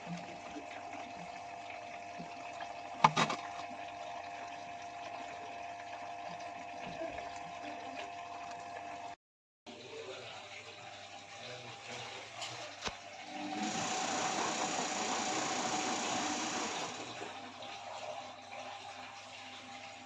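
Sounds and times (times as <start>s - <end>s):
washing machine whine and hum: 0.0s - 20.0s.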